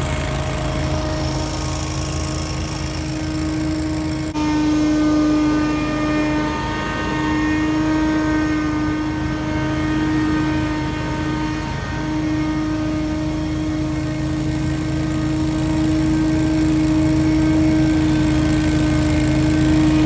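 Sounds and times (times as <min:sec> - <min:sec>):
leaf blower running: 0:00.0 - 0:20.0.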